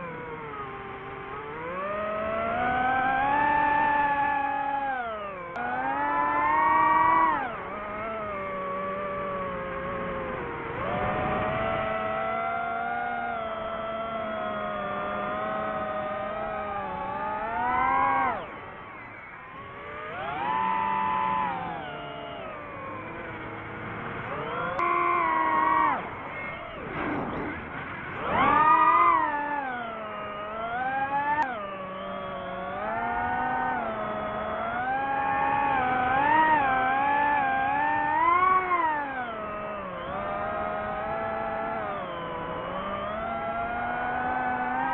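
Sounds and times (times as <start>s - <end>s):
drone motors whining: 0.0s - 44.9s.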